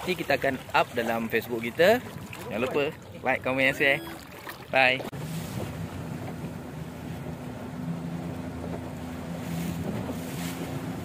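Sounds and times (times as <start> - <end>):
boat engine humming: 0.0 - 11.0
wind and water rushing: 0.0 - 11.0.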